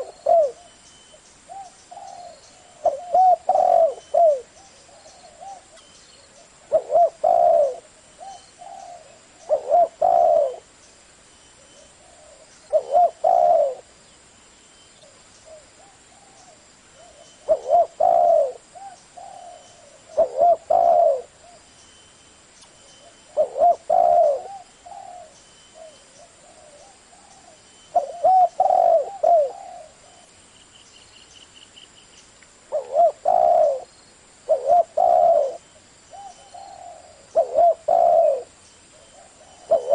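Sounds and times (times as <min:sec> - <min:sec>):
dove cooing: 0:00.0 - 0:00.8, 0:01.5 - 0:10.7, 0:11.7 - 0:13.9, 0:15.0 - 0:21.6, 0:22.9 - 0:30.3, 0:32.7 - 0:39.9.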